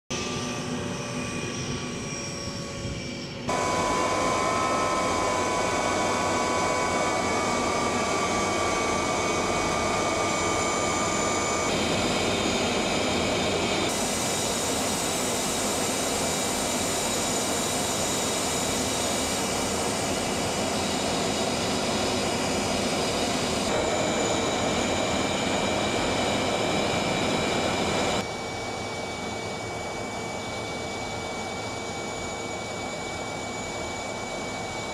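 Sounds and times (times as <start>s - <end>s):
jet engine running: 0.1s - 34.9s.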